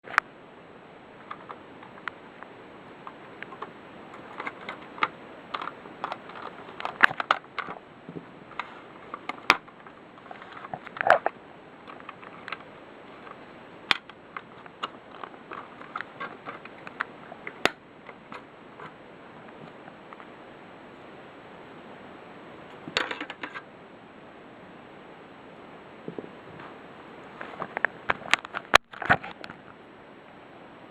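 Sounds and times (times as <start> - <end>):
steady hiss: 0.0 - 30.9.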